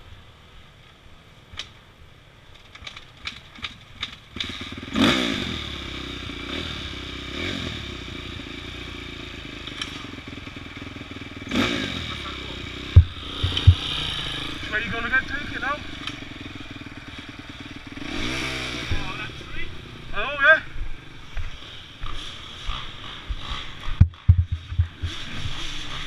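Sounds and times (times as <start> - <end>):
dirt bike engine revving: 4.3 - 26.0.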